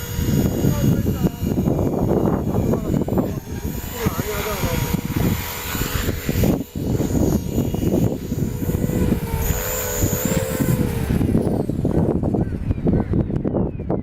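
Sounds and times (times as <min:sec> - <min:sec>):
rc helicopter whining: 0:00.0 - 0:14.0
wind buffeting microphone: 0:00.0 - 0:14.0.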